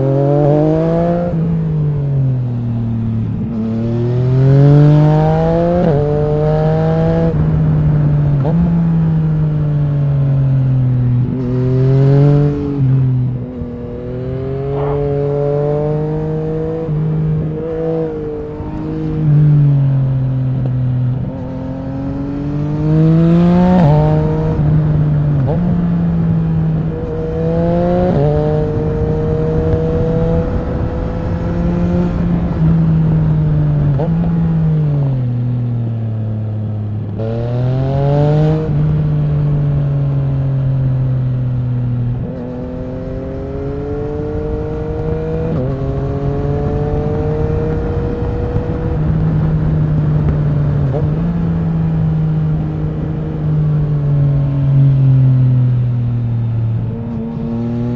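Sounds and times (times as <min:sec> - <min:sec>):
wind noise: 0:00.0 - 0:36.0, 0:37.0 - 0:57.9
motorcycle engine revving: 0:00.0 - 0:57.9.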